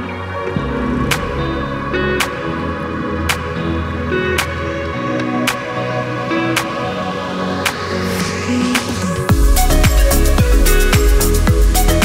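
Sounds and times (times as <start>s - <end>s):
background music with slow beat: 0.0s - 12.0s.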